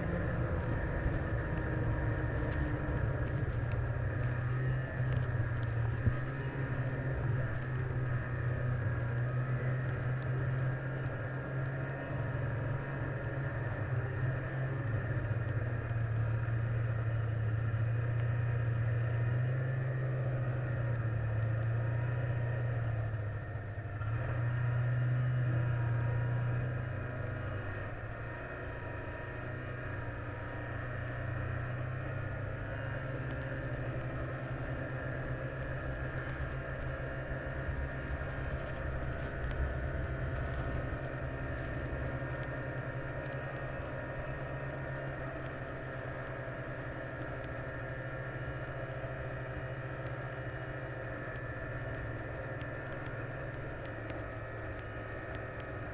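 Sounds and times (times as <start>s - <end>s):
vehicle engine drone: 0.0s - 55.9s.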